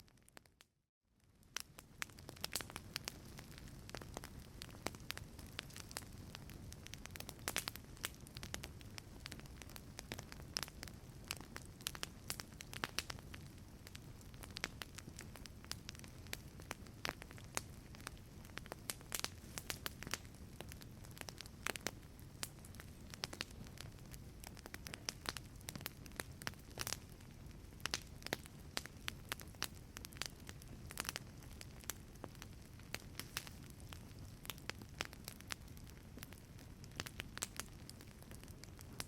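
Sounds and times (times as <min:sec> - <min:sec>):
wood fire crackling: 0:01.2 - 0:39.0.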